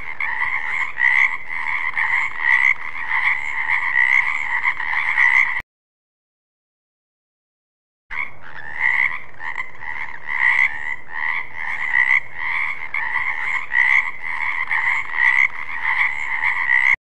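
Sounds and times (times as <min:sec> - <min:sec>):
frogs croaking: 0:00.0 - 0:05.6, 0:08.1 - 0:17.0.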